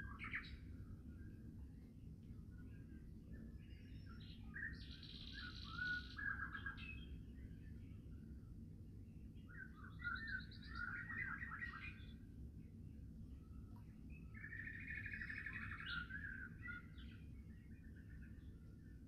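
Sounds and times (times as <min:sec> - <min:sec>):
low rumble of wind: 0:00.0 - 0:19.0
songbird singing: 0:00.0 - 0:19.0.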